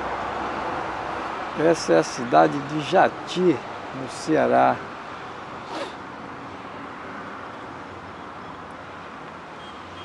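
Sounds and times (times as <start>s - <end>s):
vehicle road and engine noise: 0.0s - 10.0s.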